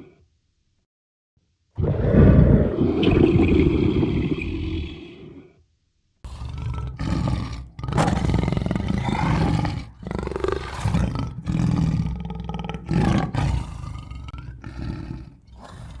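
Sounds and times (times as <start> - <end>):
animal deep roaring calls: 1.8 - 5.6, 6.3 - 16.0.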